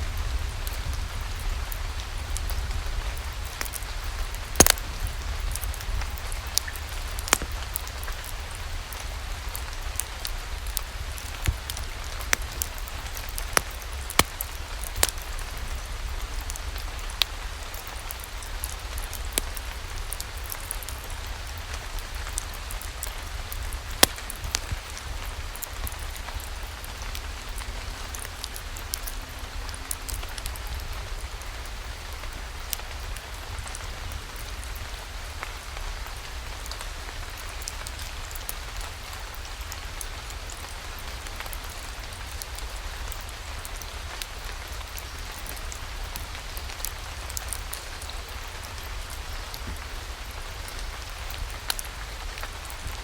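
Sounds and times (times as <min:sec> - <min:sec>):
steady rain: 0:00.0 - 0:53.0
log fire crackling and popping: 0:00.1 - 0:53.0.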